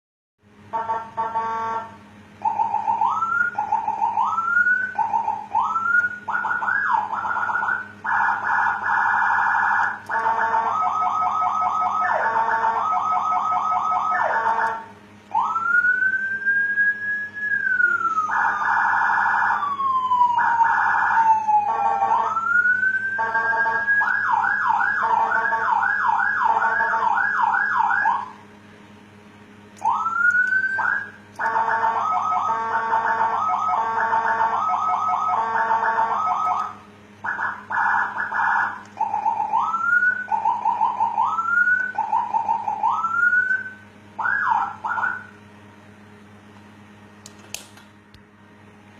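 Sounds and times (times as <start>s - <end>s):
steady low hum: 0.4s - 48.9s
electronic siren: 0.7s - 28.5s, 29.8s - 45.4s.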